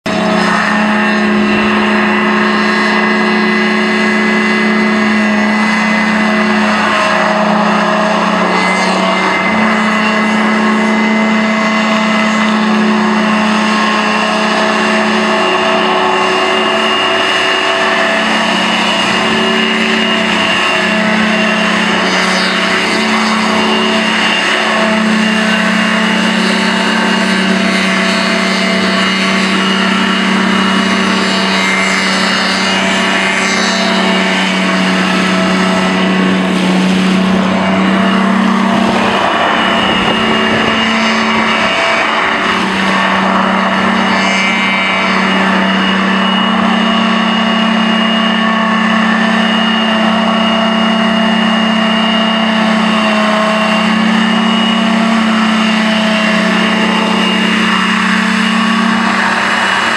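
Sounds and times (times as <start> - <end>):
hovercraft engine and propeller: 0.0 - 59.9.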